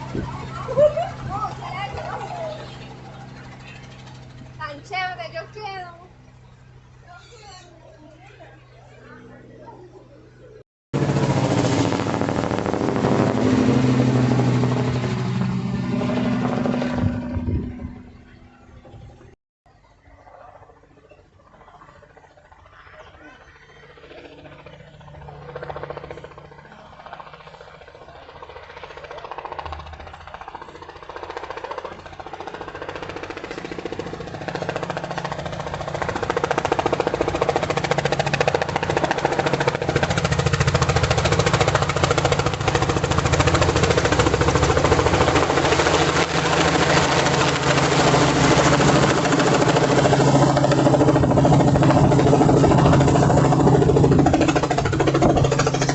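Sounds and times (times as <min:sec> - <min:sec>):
model helicopter rotor chopping: 0:00.0 - 0:08.3, 0:11.0 - 0:19.4, 0:21.4 - 0:55.9.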